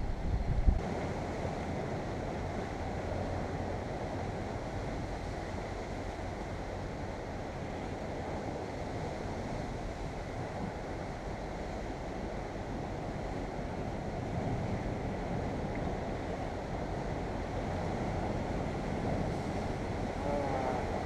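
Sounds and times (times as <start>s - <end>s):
wind buffeting microphone: 0.0s - 21.0s
surf washing against rocks: 0.8s - 21.0s.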